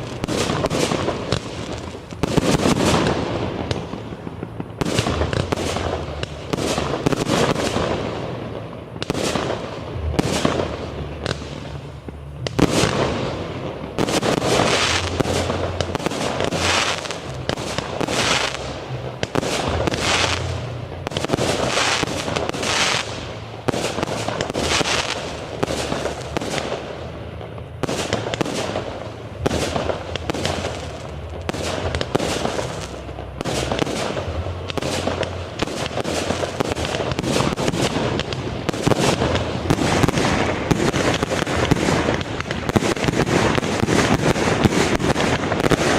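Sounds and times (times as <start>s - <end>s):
fireworks bursts and crackles: 0.0s - 45.9s.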